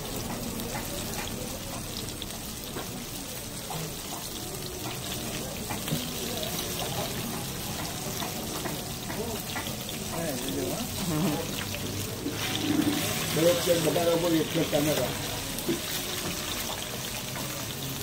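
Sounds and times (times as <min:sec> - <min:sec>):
fritters deep-frying in oil: 0:00.0 - 0:18.0.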